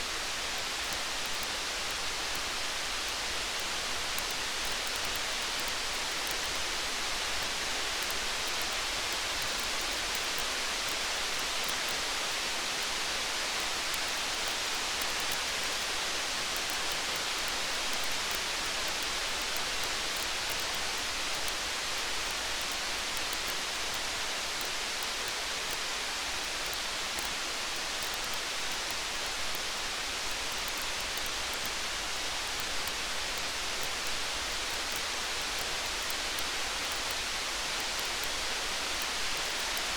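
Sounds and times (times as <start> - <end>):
faint scattered ticks: 0.0 - 39.9
rain hiss: 0.0 - 39.9.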